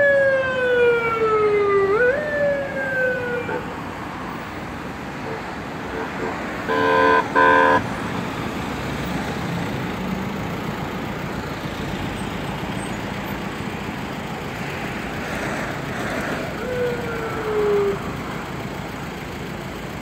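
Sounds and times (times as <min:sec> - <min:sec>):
cars passing on a road: 0:00.0 - 0:20.0.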